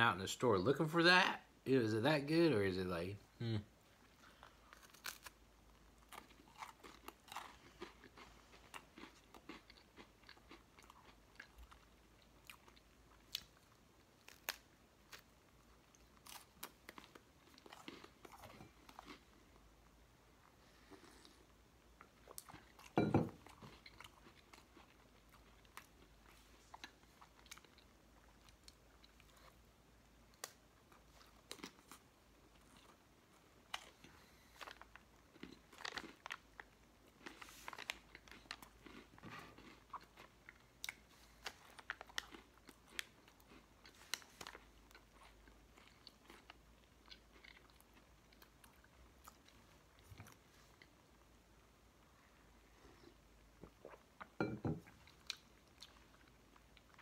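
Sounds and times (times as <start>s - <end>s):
person chewing and crunching food: 4.0s - 57.0s.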